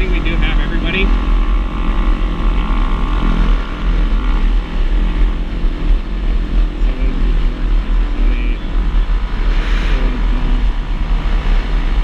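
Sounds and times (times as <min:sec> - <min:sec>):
steady high tone: 0:00.0 - 0:11.8
motorcycle engine cruising: 0:00.0 - 0:12.0
other minibikes riding: 0:00.0 - 0:12.0
wind rushing over microphone: 0:00.0 - 0:12.0.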